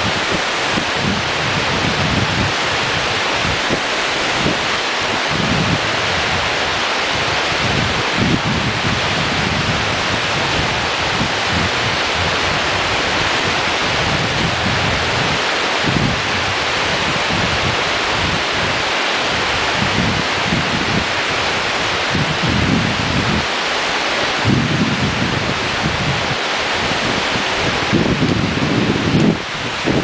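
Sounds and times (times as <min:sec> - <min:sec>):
whitewater rapids rushing: 0:00.0 - 0:30.0
wind gusting on microphone: 0:00.0 - 0:30.0.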